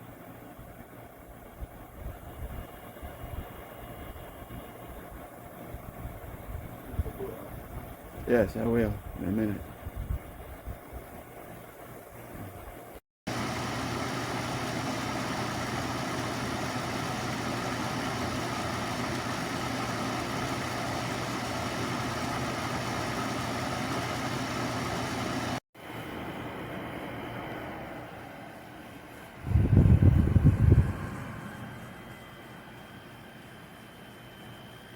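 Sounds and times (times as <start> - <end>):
air conditioner fan rushing air: 0.0 - 34.9
constant low hum: 0.0 - 34.9.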